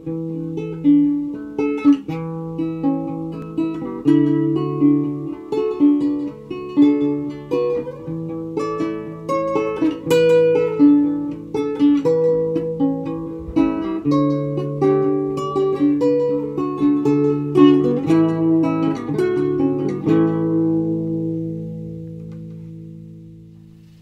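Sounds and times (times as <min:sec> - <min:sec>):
plucked guitar melody: 0:00.0 - 0:24.0.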